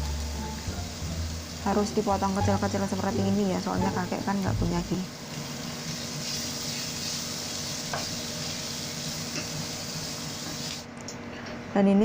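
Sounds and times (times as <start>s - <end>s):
vegetables sizzling in hot oil: 0.0s - 10.9s.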